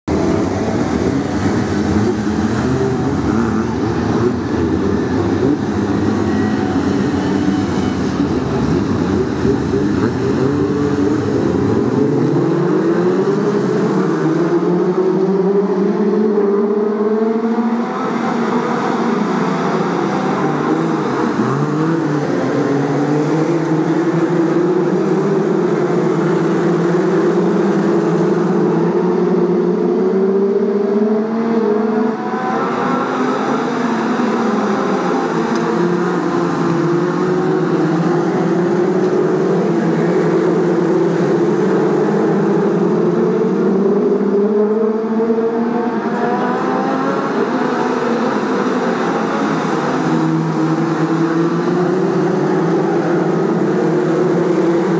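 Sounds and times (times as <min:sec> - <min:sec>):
racing car engines: 0:00.0 - 0:54.9.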